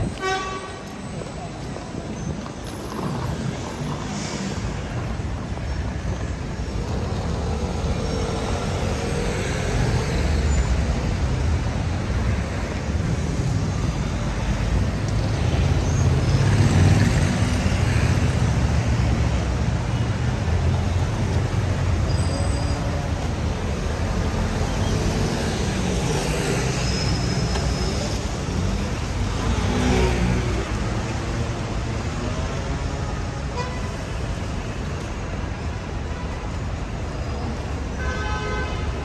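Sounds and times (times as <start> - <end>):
cars and scooters passing: 0.0 - 39.0.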